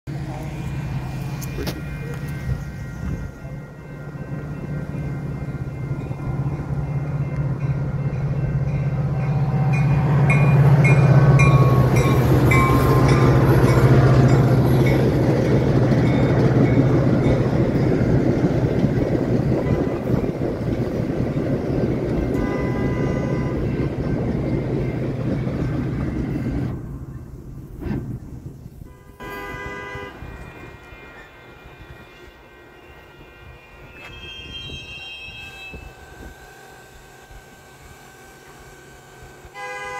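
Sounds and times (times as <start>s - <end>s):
low diesel drone: 0.1s - 29.4s, 35.6s - 39.9s
train rolling past: 0.1s - 39.9s.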